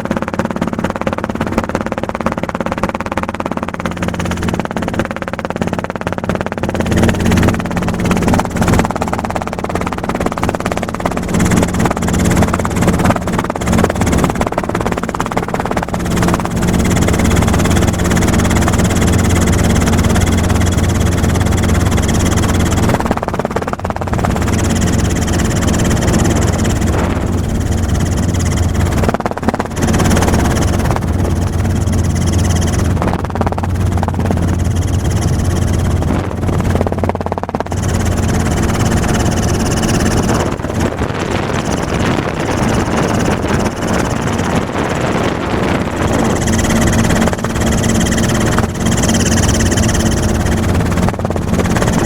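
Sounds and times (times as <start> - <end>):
helicopter engine and rotor: 0.0 - 52.0.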